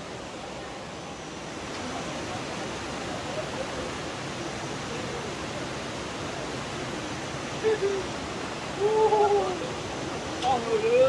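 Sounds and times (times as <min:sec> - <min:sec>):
waterfall rushing: 0:00.0 - 0:11.0
faint distant voices: 0:00.3 - 0:11.0.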